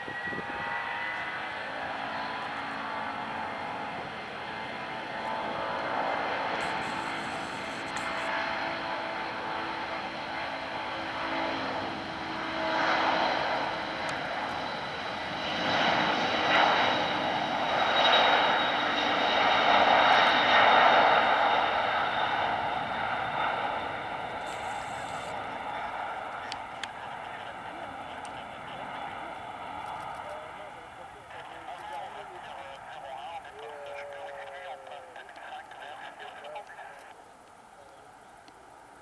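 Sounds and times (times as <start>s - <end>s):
jet engines at take-off power: 0.0s - 39.0s.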